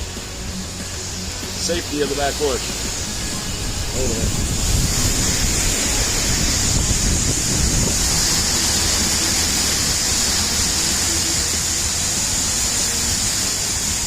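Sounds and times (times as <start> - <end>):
hurricane wind: 0.0 - 14.0
rain: 0.0 - 14.0.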